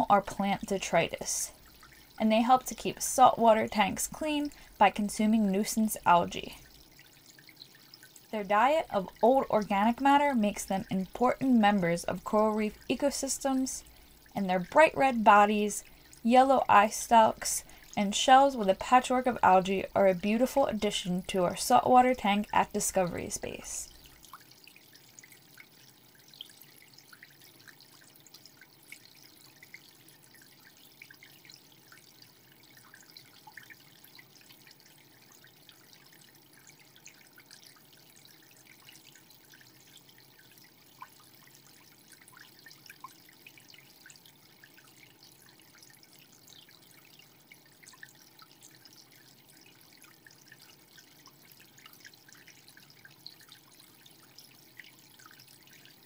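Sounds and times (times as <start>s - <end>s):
aquarium water trickling: 0.0s - 56.0s.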